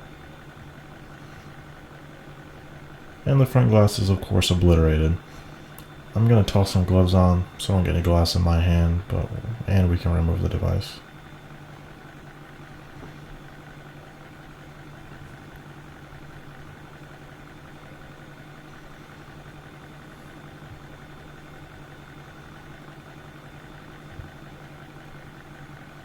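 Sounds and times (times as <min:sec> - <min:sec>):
faint high whine: 0:00.0 - 0:26.0
low machine hum: 0:00.0 - 0:26.0.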